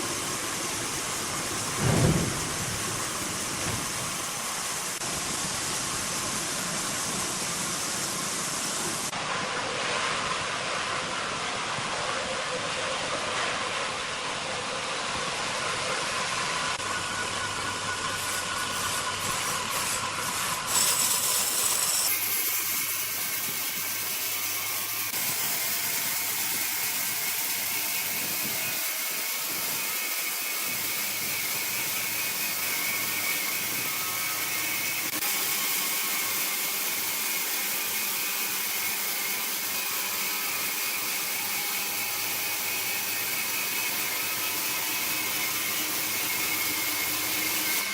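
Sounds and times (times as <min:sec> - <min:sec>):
sawmill machinery grinding: 0:00.0 - 0:09.1, 0:16.2 - 0:47.9.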